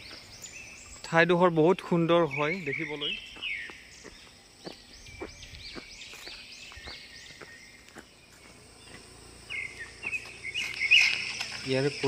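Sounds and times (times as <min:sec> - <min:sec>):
bird calling: 0:00.0 - 0:12.0
bird chirp: 0:00.0 - 0:12.0.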